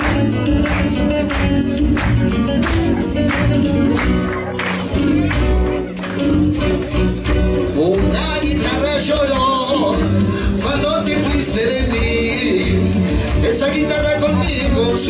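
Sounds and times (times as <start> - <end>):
audience clapping in time: 0.0 - 15.0
guitar: 0.0 - 15.0
live band playing folk music: 0.0 - 15.0.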